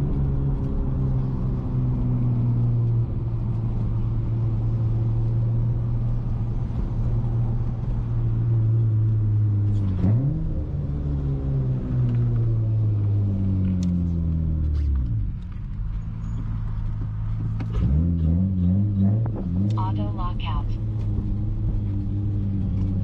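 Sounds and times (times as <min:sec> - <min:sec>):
car engine droning: 0:00.0 - 0:23.0.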